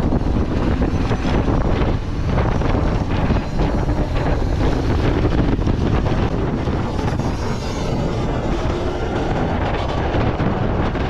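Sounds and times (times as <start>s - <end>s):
go-kart engine running: 0.0s - 11.0s
wind buffeting microphone: 0.0s - 11.0s.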